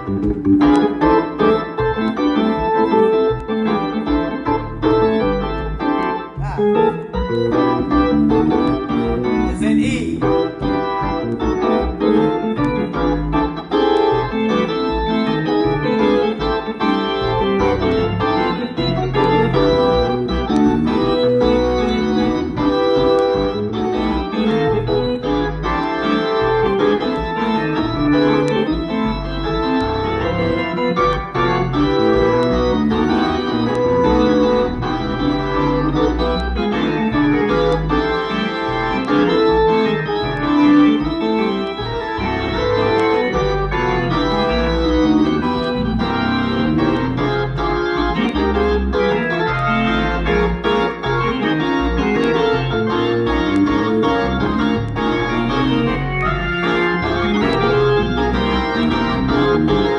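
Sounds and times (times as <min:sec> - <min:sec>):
organ playing chords: 0:00.0 - 0:59.9.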